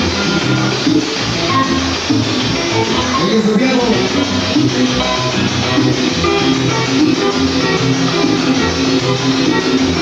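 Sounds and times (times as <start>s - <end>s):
loud salsa music: 0.0s - 10.0s.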